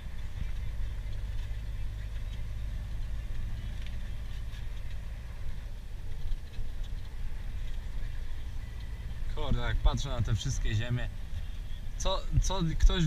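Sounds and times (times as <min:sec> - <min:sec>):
faint ticks and rattles: 0:00.0 - 0:13.0
truck engine low rumble: 0:00.0 - 0:13.0.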